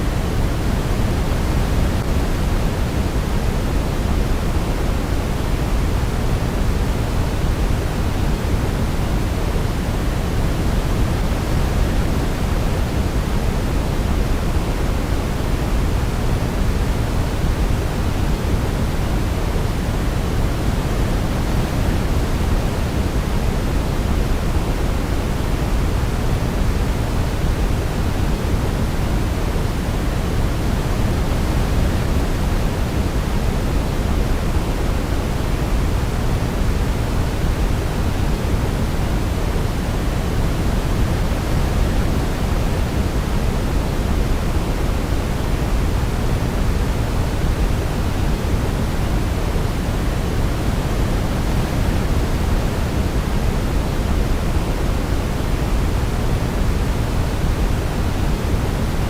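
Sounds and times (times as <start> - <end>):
constant low hiss: 0.0 - 59.0.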